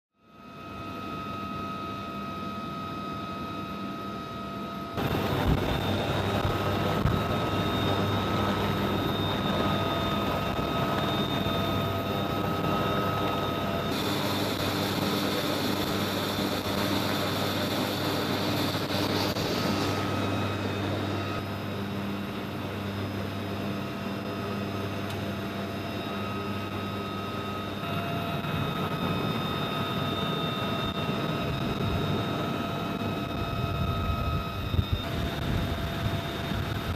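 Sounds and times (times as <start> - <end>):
helicopter turbine whine: 0.2 - 36.9.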